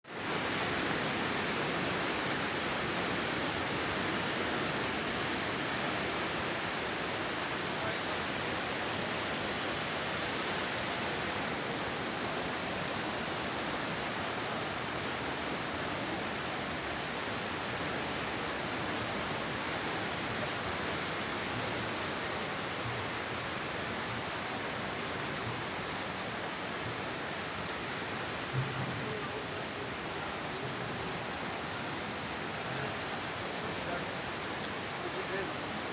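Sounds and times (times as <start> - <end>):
floodwater rushing: 0.1 - 35.9.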